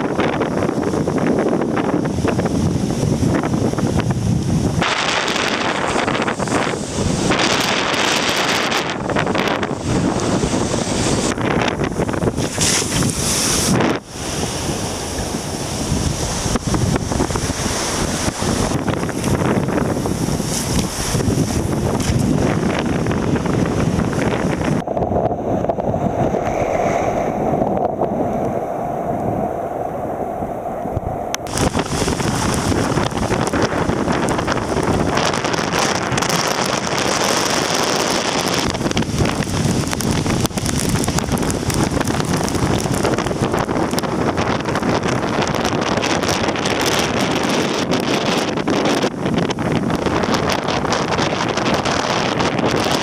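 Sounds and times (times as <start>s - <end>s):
rushing wind: 0.0s - 53.0s
sea water rushing: 0.0s - 53.0s
wind buffeting the microphone: 0.0s - 53.0s.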